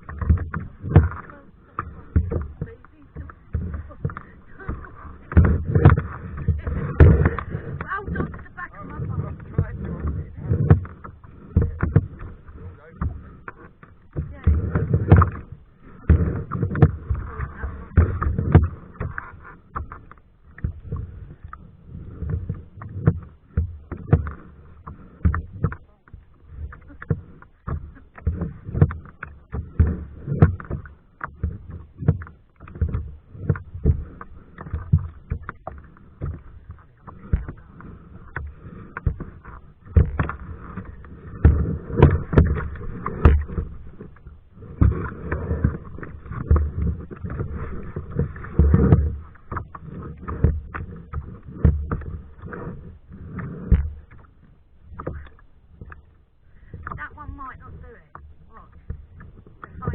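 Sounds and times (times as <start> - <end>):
paddle splashing in water: 0.0 - 59.9
water slapping against hull: 0.0 - 59.9.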